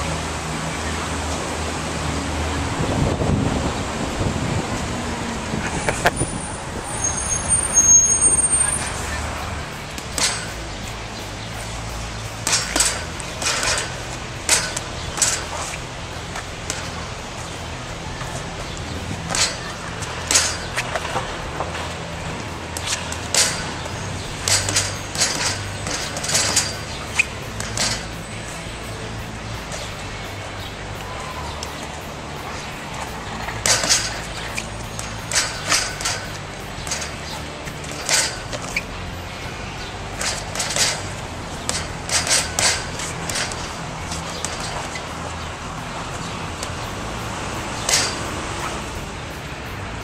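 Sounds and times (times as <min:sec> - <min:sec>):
punches and footwork on concrete: 0:07.5 - 0:50.0
steady low hum: 0:08.8 - 0:50.0.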